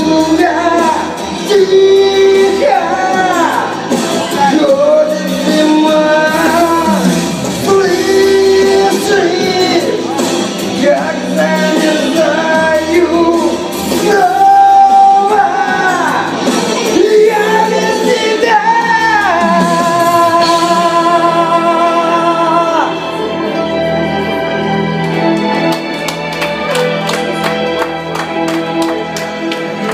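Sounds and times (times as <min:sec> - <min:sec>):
person singing long notes: 0:00.0 - 0:24.2
instrumental accompaniment: 0:00.0 - 0:29.9.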